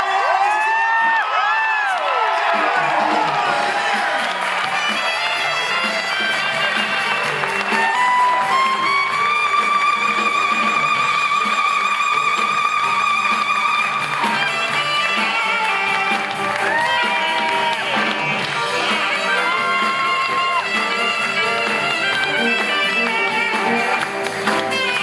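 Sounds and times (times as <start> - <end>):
band accompaniment: 2.2 - 25.0
saxophone solo: 3.2 - 25.0.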